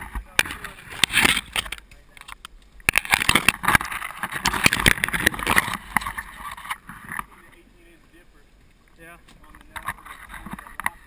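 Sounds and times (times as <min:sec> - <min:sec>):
branches scraping against canoe: 0:00.0 - 0:11.0.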